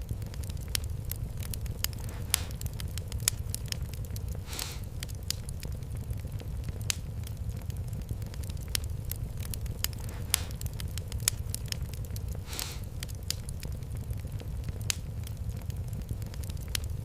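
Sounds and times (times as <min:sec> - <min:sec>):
fire hissing: 0:00.0 - 0:17.0
wood fire crackling: 0:00.0 - 0:17.0.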